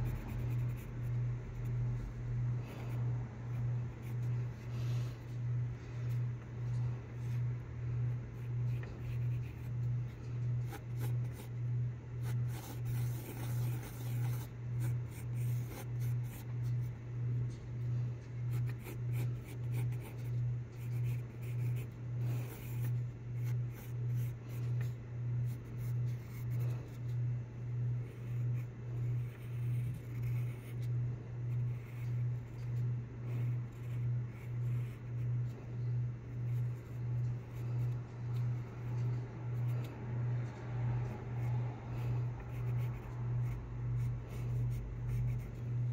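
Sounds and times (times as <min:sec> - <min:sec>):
pencil scratching on paper: 0:00.0 - 0:02.0, 0:02.6 - 0:40.0, 0:41.1 - 0:45.9
pulsing low hum: 0:00.0 - 0:45.9.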